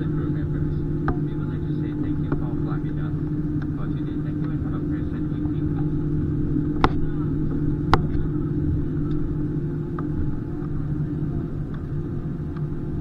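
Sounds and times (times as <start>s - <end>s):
airplane cabin hum: 0.0s - 13.0s.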